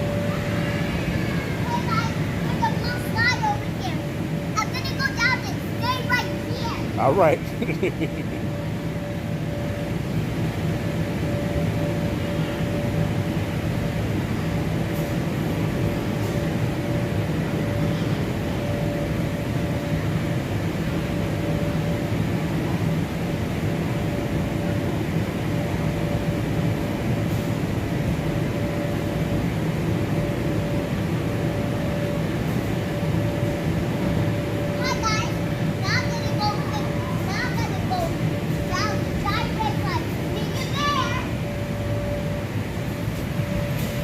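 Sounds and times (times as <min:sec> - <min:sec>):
electric air blowers droning: 0:00.0 - 0:44.0.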